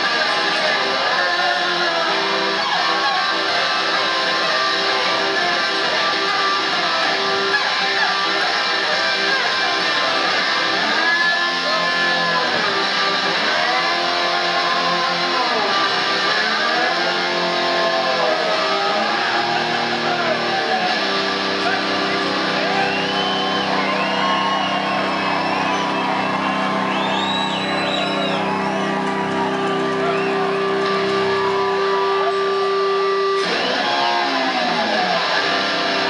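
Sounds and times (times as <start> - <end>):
slide guitar through pa: 0.0 - 36.0.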